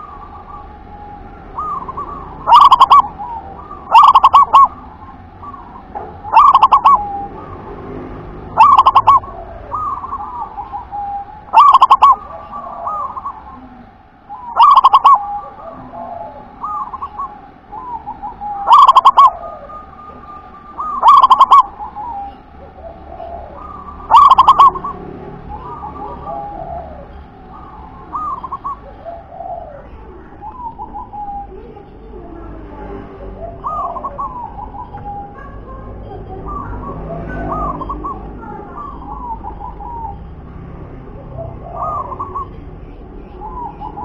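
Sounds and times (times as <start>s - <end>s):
soft dove coos: 0.0s - 7.9s, 8.5s - 32.5s, 33.2s - 40.4s, 41.1s - 44.0s
dove rolling coos: 0.0s - 32.2s, 33.2s - 40.4s, 41.0s - 44.0s.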